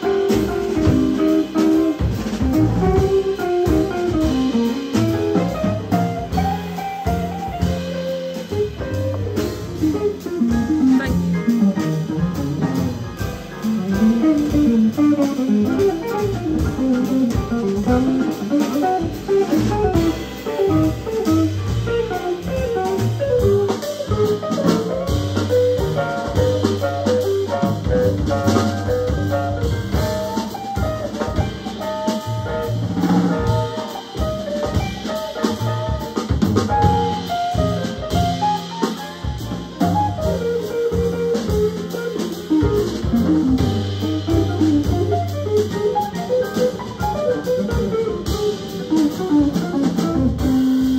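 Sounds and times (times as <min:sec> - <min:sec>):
drum kit: 0:00.0 - 0:50.9
upright bass: 0:00.0 - 0:50.9
electric jazz guitar solo: 0:00.1 - 0:32.2, 0:32.9 - 0:50.9.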